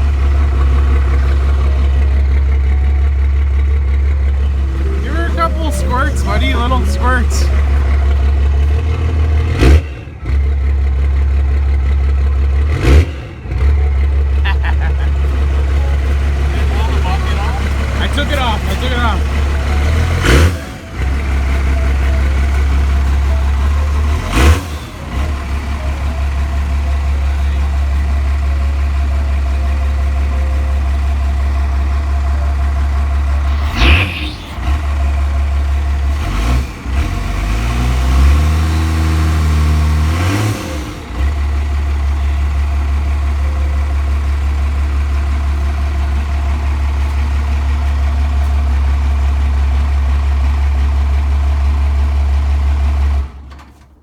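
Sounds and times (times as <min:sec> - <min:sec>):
diesel engine idling and revving: 0:00.0 - 0:54.0.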